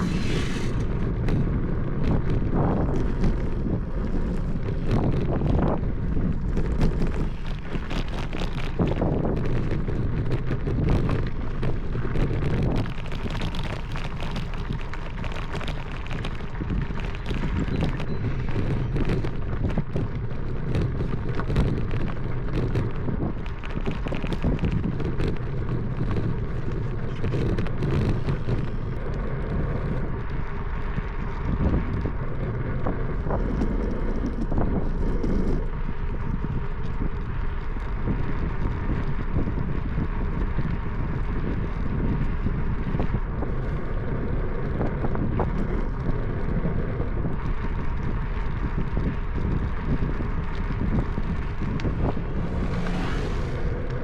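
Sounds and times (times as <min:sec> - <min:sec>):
tyre and road noise: 0:00.0 - 0:54.0
wind buffeting microphone: 0:00.0 - 0:54.0
small clicks and rattles: 0:00.8 - 0:54.0.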